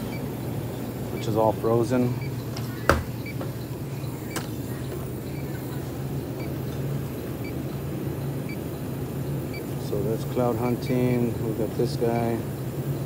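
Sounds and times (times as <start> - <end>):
freezer display cases humming: 0.0 - 13.0.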